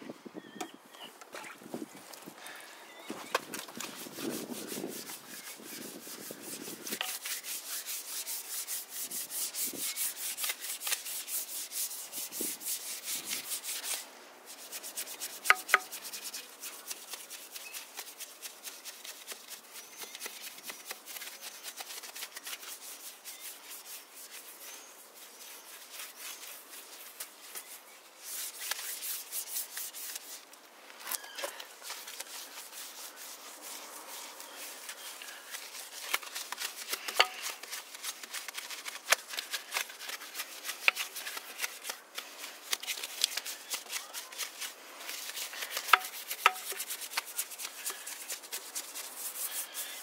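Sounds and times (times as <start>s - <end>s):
brush scrubbing a wet wheel: 3.2s - 50.0s.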